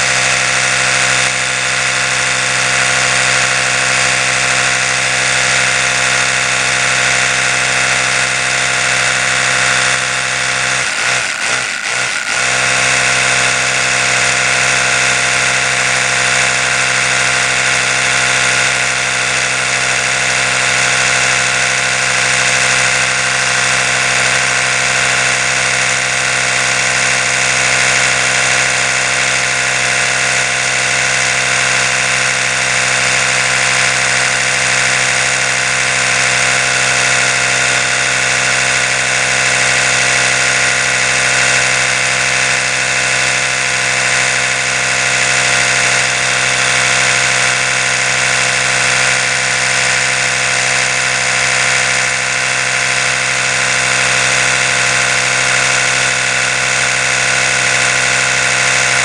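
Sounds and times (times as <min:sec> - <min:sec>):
electric toothbrush buzzing: 0:00.0 - 0:59.0.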